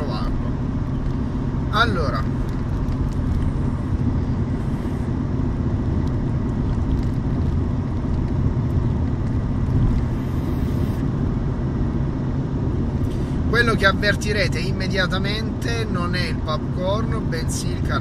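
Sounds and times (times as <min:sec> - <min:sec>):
car engine running: 0:00.0 - 0:18.0
road noise in car: 0:00.0 - 0:18.0.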